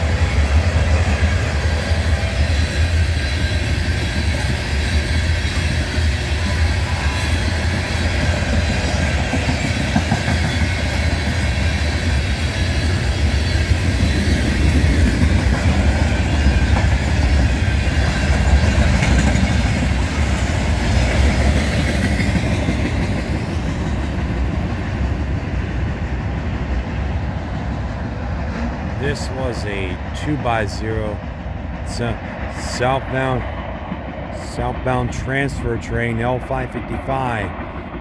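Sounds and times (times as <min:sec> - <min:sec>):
freight train rolling on rails: 0:00.0 - 0:38.0.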